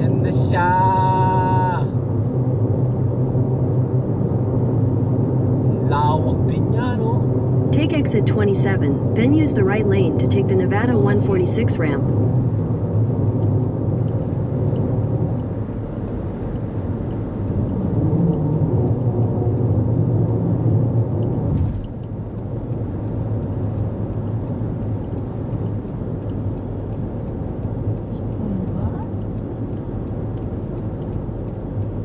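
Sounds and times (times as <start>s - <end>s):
car cabin road and engine noise: 0.0s - 32.0s.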